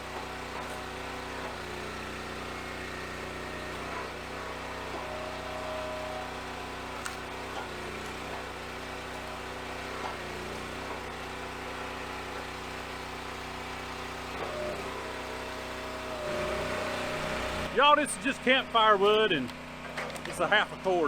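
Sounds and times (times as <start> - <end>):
log splitter engine running: 0.0 - 21.0.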